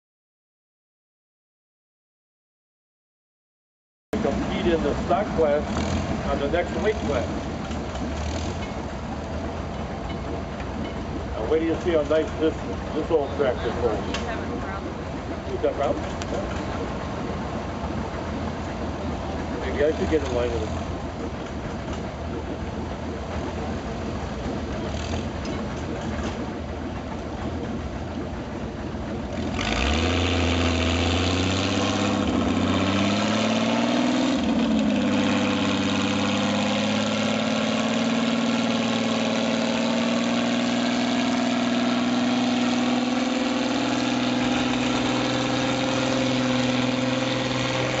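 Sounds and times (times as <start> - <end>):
tractor engine working under load: 4.2 - 48.0.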